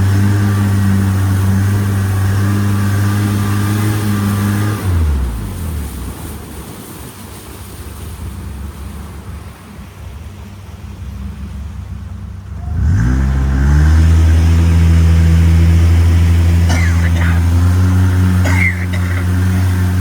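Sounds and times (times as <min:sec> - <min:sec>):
boat engine idling and revving: 0:00.0 - 0:20.0.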